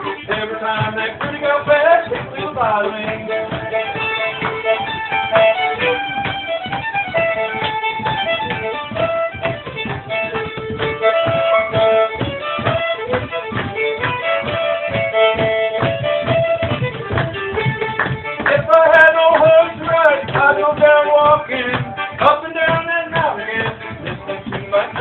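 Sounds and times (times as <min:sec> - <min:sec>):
fiddle playing melody: 0:00.0 - 0:25.0
rhythmic accompaniment: 0:00.0 - 0:25.0.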